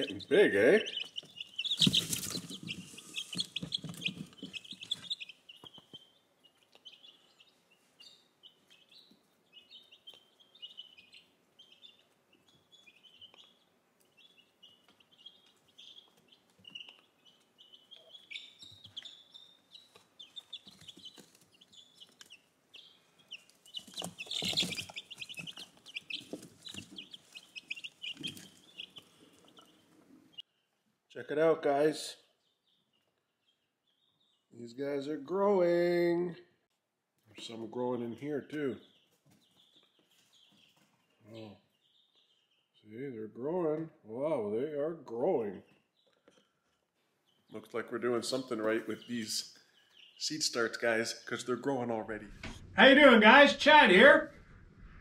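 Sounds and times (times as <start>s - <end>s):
chicks peeping: 0.0s - 36.3s, 37.2s - 55.0s.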